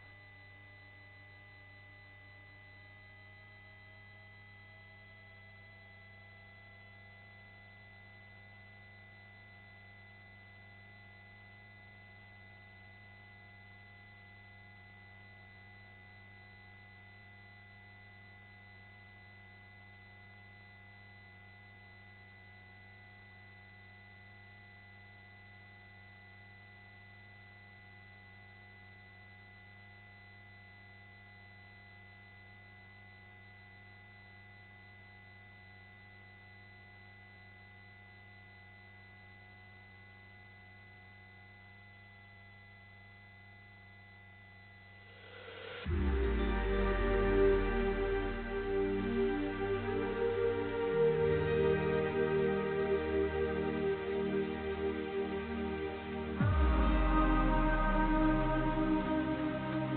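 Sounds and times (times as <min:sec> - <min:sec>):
faint steady hum with tones: 0:00.0 - 0:59.9.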